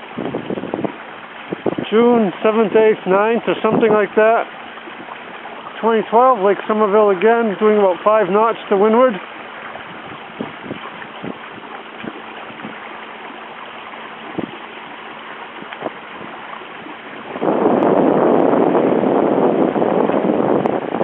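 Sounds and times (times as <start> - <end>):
water lapping along hull: 0.0 - 21.0.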